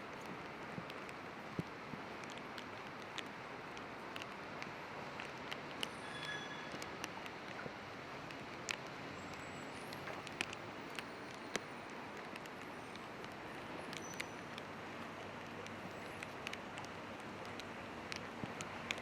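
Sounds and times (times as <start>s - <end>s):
rain on a street: 0.0s - 19.0s
sharp ticks of raindrops: 0.0s - 19.0s.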